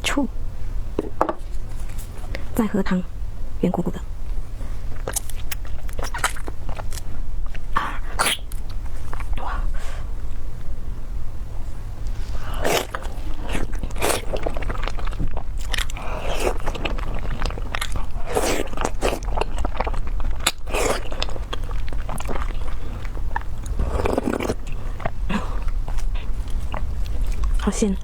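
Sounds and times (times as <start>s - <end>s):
steady low hum: 0.0s - 28.0s
wet chewing sounds: 4.6s - 10.7s, 11.7s - 28.0s.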